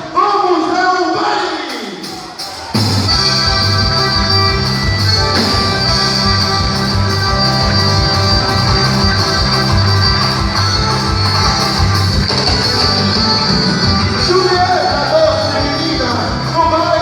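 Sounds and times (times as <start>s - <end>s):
dance music with plucked strings: 2.8s - 17.0s.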